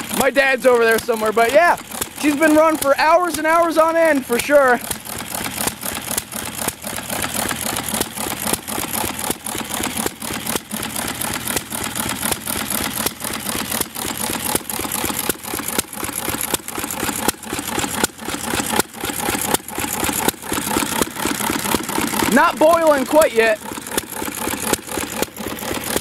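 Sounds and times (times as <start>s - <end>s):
stationary engines running: 0.0s - 26.0s.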